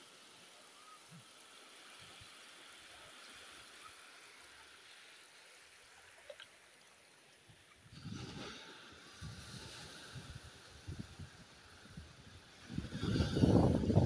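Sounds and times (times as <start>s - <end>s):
small waves lapping on shore: 0.0s - 14.0s.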